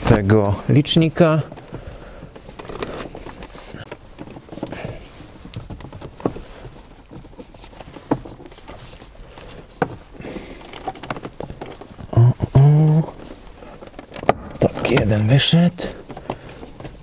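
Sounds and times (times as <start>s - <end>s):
plastic rustling and scraping: 0.0s - 17.0s.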